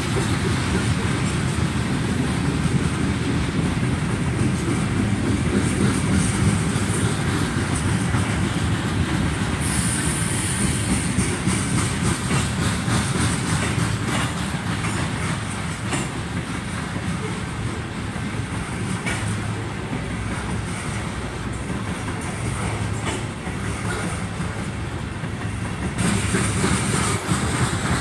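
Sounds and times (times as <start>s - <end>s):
train wheels rumbling on rail: 0.0s - 28.0s
wheels clicking over rail joints: 0.0s - 28.0s.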